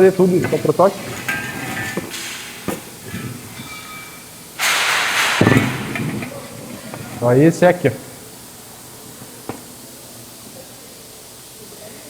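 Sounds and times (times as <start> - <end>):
loud welding sizzle: 0.0 - 12.0
welding arc hissing: 0.0 - 12.0.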